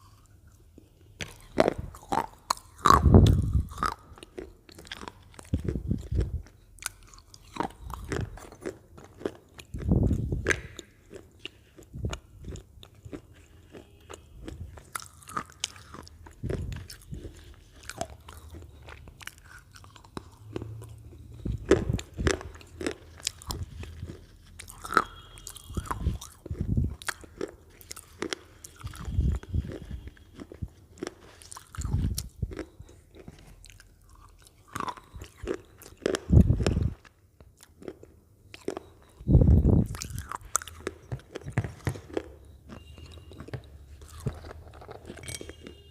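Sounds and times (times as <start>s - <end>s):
crunching and chewing potato chips: 0.0s - 45.9s.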